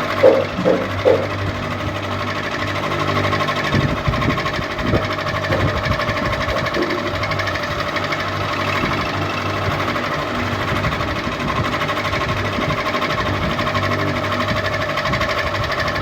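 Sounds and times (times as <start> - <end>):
ceiling fan motor hum: 0.0 - 16.0
fan pulsing rattle: 0.0 - 16.0.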